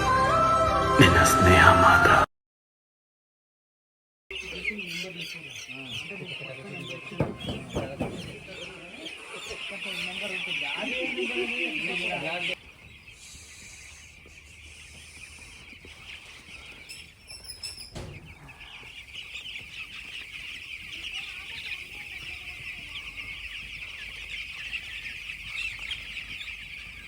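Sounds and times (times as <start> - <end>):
chicks cheeping: 4.3 - 27.0.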